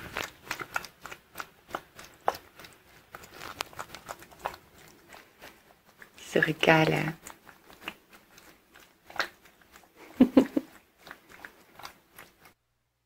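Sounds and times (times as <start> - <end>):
pet chewing and smacking: 0.0 - 12.6.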